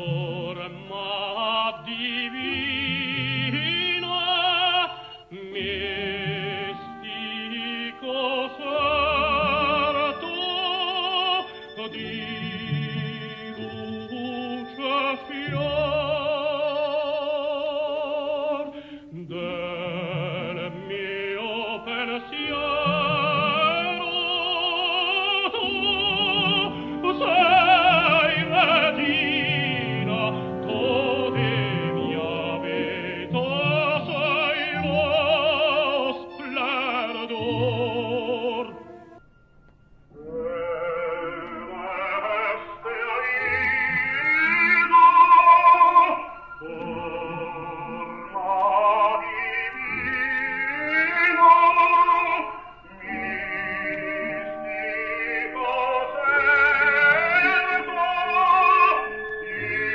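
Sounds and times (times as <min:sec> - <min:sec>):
man singing opera: 0:00.0 - 0:39.2, 0:40.1 - 0:59.9.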